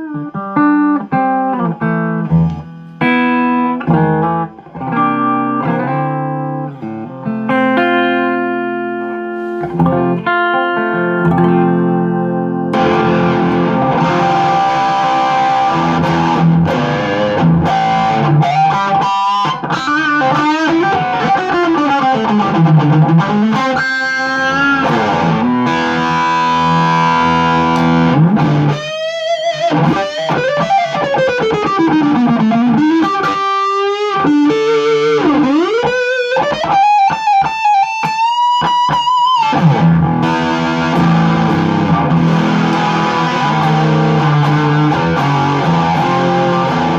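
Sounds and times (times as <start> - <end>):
distorted electric guitar: 0.0 - 46.9.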